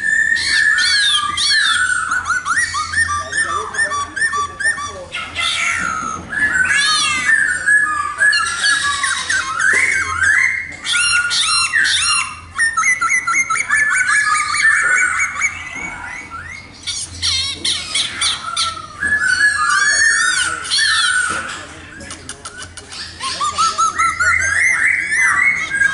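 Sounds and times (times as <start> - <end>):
bird singing whistled song: 0.0 - 25.9.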